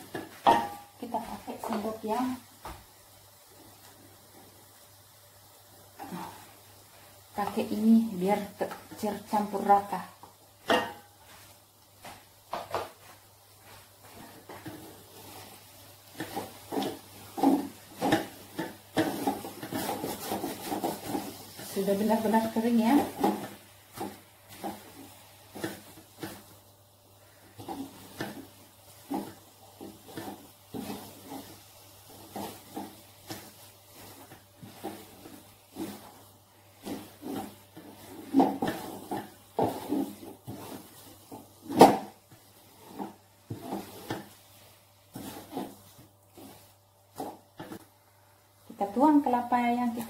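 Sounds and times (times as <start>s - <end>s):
spatula scraping a wok: 0.0s - 2.4s, 7.4s - 47.9s.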